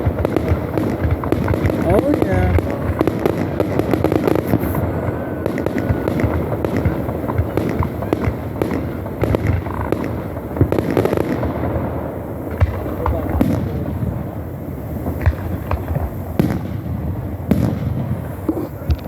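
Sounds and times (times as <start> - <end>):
fireworks popping and crackling: 0.0 - 19.0
sharp firework bangs: 0.0 - 19.0.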